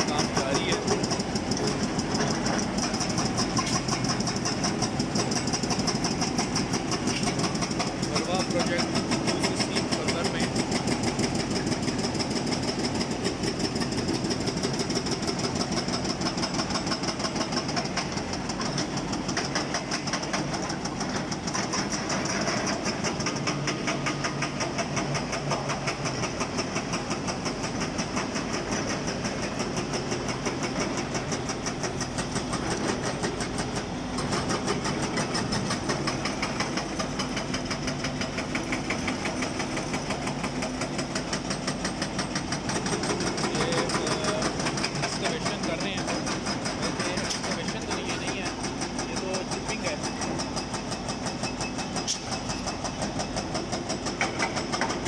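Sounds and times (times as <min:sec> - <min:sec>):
diesel engine running: 0:00.0 - 0:55.0
hydraulic breaker hammering rock: 0:00.0 - 0:55.0.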